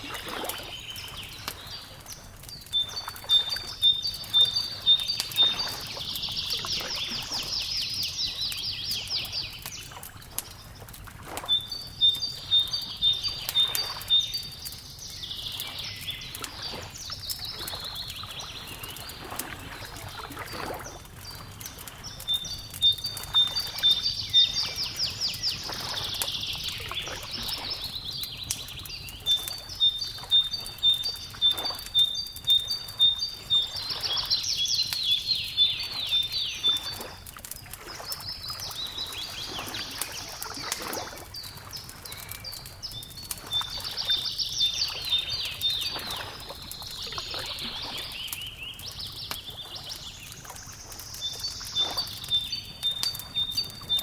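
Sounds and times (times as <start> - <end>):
fire crackling: 0.0 - 54.0
songbird singing: 0.0 - 54.0.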